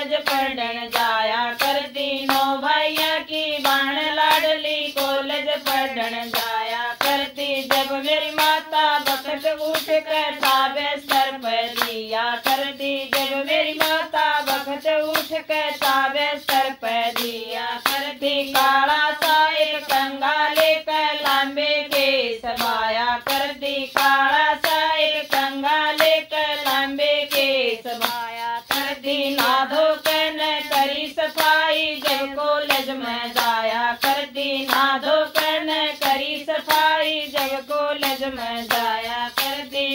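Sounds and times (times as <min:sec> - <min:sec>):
rhythmic hand clapping: 0:00.0 - 0:39.9
woman singing folk song: 0:00.0 - 0:39.9.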